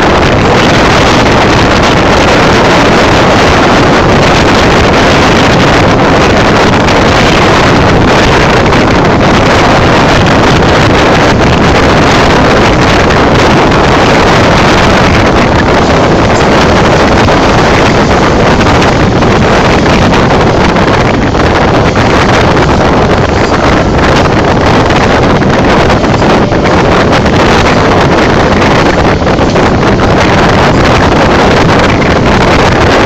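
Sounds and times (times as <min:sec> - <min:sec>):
train running noise: 0:00.0 - 0:33.0
wind buffeting microphone: 0:00.0 - 0:33.0.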